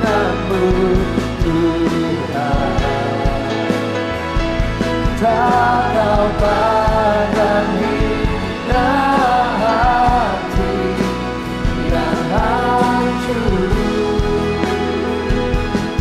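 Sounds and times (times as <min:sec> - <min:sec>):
acoustic guitar: 0:00.0 - 0:16.0
drums: 0:00.0 - 0:16.0
person singing: 0:00.0 - 0:16.0.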